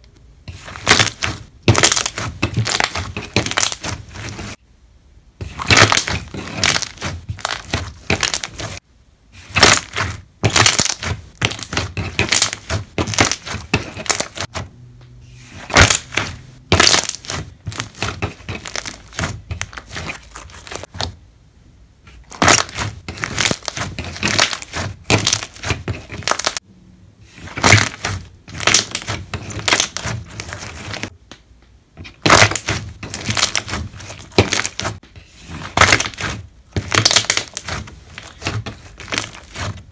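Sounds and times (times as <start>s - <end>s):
slime squishing and bubbles popping: 0.5s - 4.6s, 5.5s - 8.8s, 9.4s - 14.6s, 15.6s - 21.1s, 22.3s - 26.6s, 27.4s - 31.1s, 32.0s - 39.8s.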